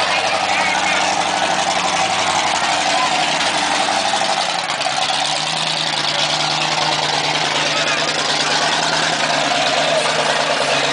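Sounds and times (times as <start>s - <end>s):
car engines idling: 0.0s - 10.9s
lower steady engine note: 0.0s - 10.9s.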